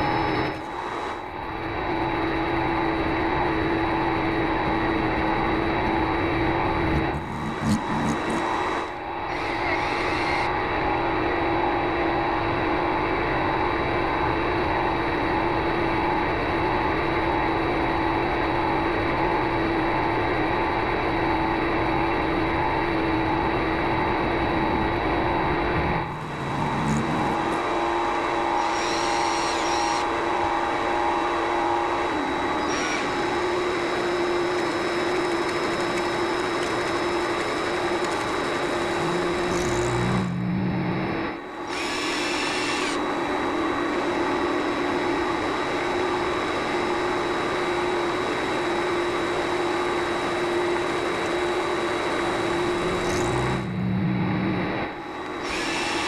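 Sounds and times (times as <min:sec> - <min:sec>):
lathe motor whine: 0:00.0 - 0:13.3, 0:21.0 - 0:56.0.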